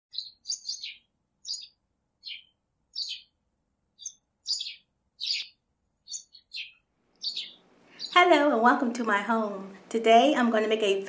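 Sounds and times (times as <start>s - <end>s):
songbird chirping: 0.1s - 9.4s.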